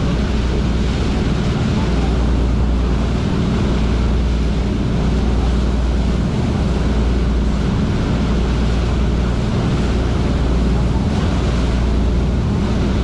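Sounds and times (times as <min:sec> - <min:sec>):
boat engines droning: 0:00.0 - 0:13.0
churning wake: 0:00.0 - 0:13.0
wind on microphone: 0:00.0 - 0:13.0.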